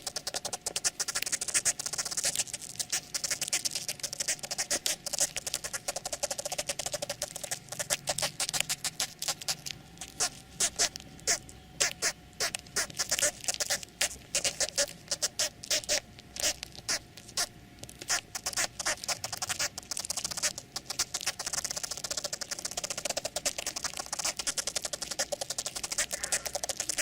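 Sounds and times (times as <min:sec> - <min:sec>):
dry crackling and scratching: 0:00.0 - 0:27.0.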